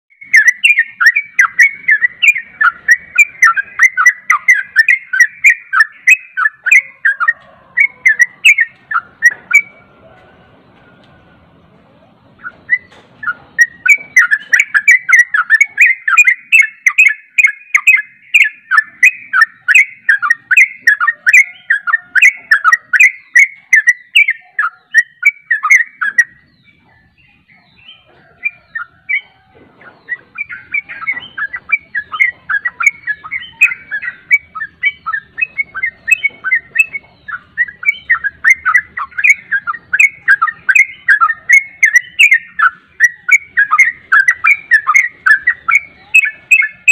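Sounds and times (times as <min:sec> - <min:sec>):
bulbul singing: 0:00.1 - 0:46.9.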